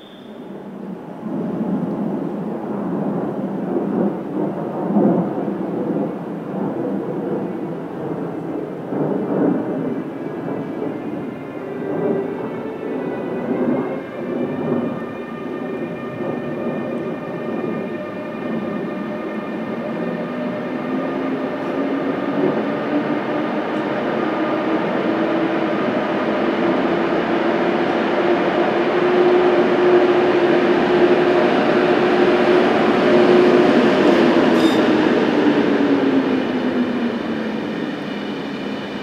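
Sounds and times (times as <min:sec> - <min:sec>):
train running gear rumbling: 0:00.0 - 0:39.0.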